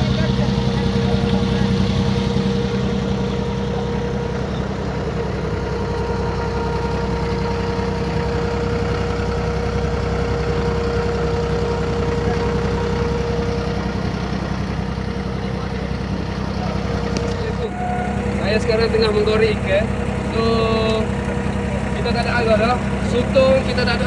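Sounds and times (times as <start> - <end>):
boat engine low drone: 0.0 - 24.0
thin steady whine: 0.0 - 24.0.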